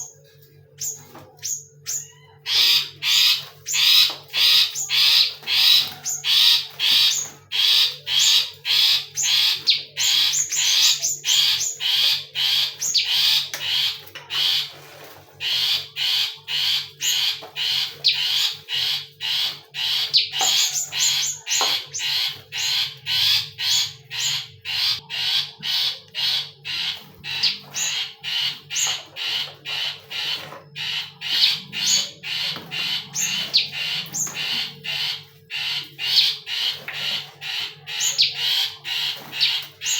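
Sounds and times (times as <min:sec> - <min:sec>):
bird harsh calls: 0:00.0 - 0:39.9.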